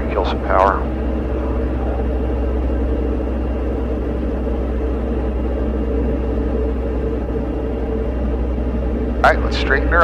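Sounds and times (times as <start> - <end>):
aircraft engine and propeller droning: 0.0 - 10.0.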